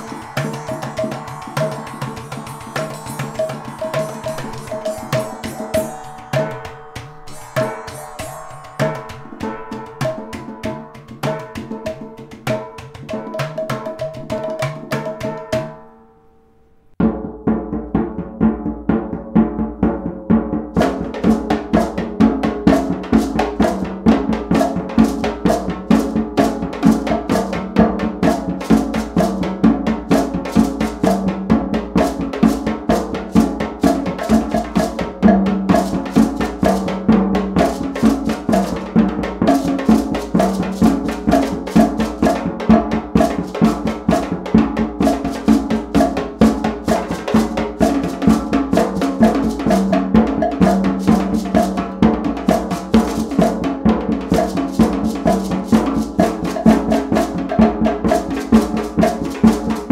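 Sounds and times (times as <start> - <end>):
shakers: 0.0 - 15.8, 20.8 - 59.9
hand drums playing: 0.0 - 15.9, 17.0 - 59.9
cowbell strokes: 0.0 - 16.0, 20.8 - 59.9.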